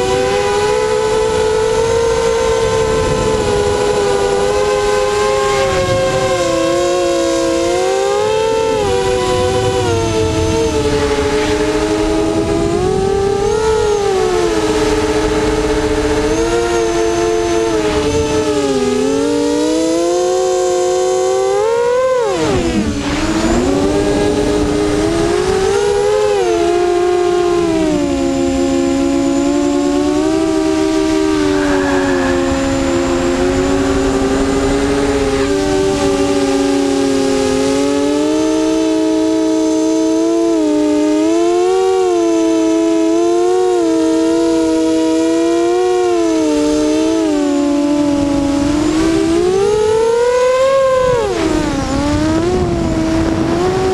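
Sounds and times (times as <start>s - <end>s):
drone motors and propellers whining: 0.0s - 53.9s.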